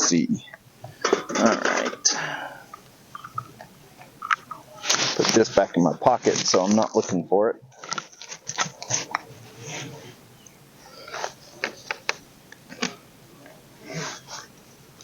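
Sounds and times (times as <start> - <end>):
handling rustling: 0.5 - 15.0.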